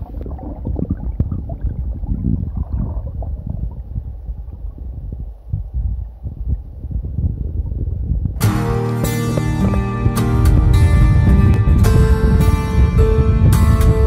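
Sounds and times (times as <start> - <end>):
underwater rumbling and gurgling: 0.0 - 8.4, 9.4 - 14.0
low knocks and thumps: 0.0 - 14.0.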